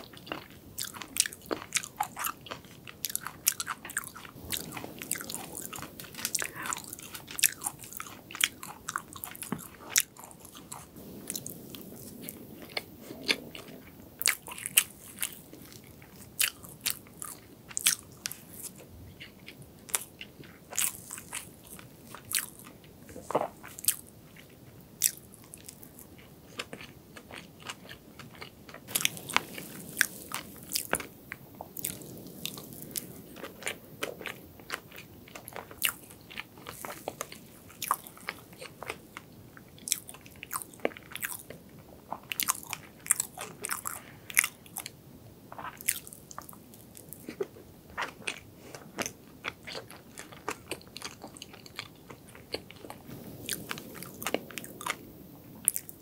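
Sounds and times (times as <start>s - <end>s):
chewing soft cake: 0.0s - 56.0s.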